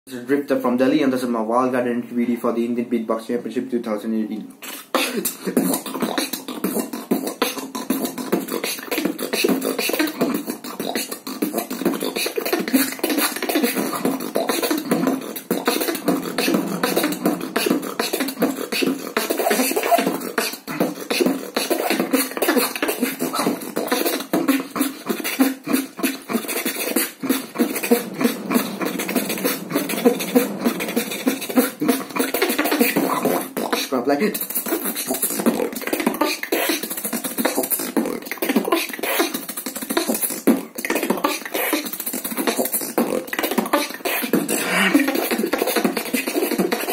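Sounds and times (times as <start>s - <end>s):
man beatboxing: 4.6s - 46.9s.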